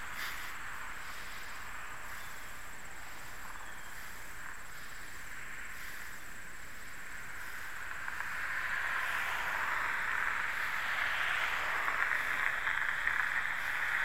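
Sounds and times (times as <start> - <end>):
distant highway traffic hiss: 0.0 - 14.0.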